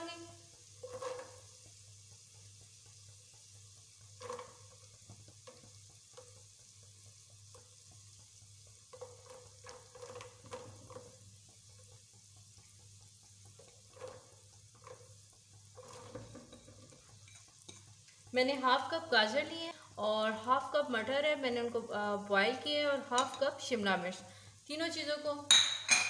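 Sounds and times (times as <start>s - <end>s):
vegetables sizzling in oil: 0.0s - 25.6s.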